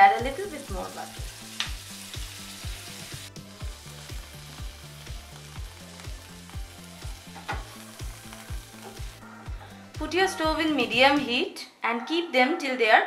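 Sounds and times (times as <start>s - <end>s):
butter sizzling in a pan: 0.0s - 11.3s
background music with steady beat: 0.0s - 12.8s.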